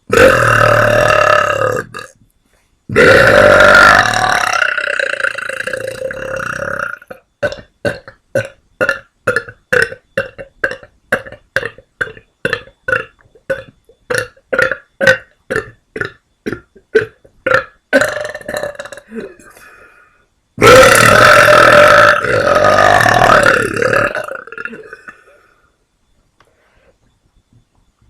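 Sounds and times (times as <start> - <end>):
woman burping: 0.1 - 2.1, 2.9 - 19.7, 20.6 - 25.4.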